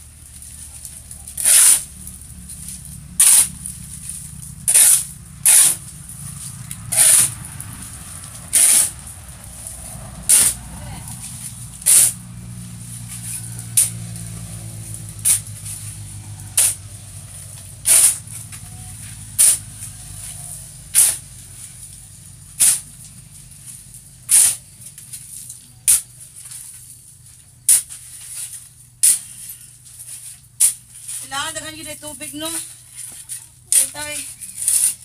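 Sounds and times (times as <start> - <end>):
shovel scraping cement floor: 0.2 - 35.0.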